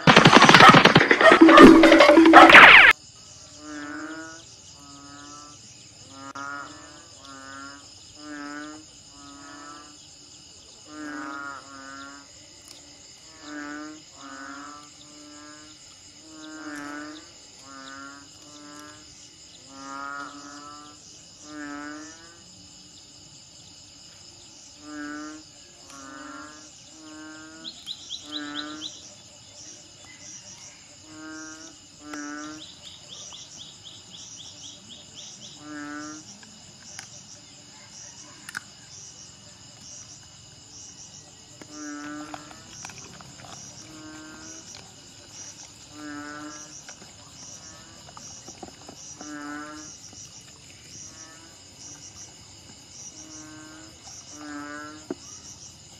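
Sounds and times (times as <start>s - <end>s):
insect chorus: 0.0s - 55.9s.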